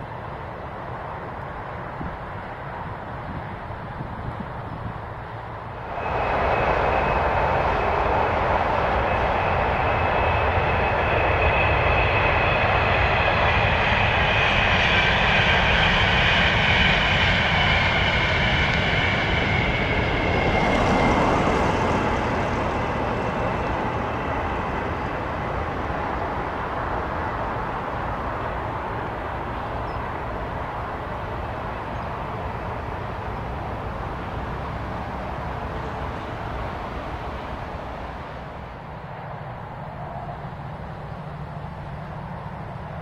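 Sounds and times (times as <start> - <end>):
electric train passing at speed: 0.0 - 43.0.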